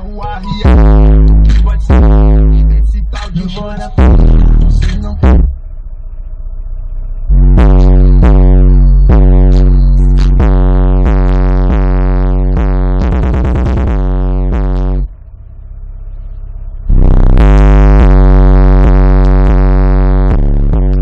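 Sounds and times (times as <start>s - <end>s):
bass-heavy electronic music: 0.0s - 21.0s
rising synth sweep: 0.6s - 21.0s.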